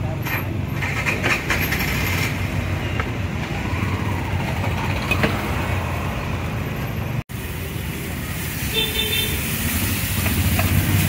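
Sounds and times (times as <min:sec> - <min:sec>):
engines passing close by: 0:00.0 - 0:11.0
road traffic rumble: 0:00.0 - 0:11.0.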